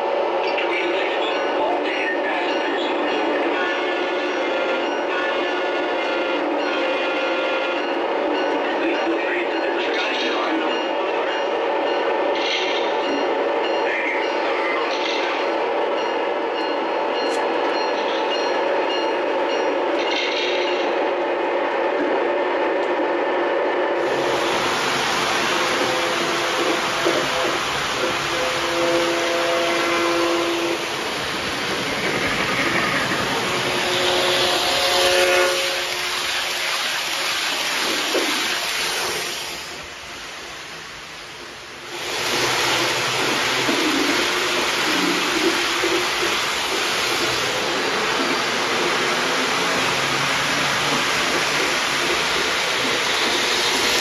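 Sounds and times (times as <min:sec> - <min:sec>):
model train running on track: 0:00.0 - 0:21.1, 0:24.0 - 0:54.0.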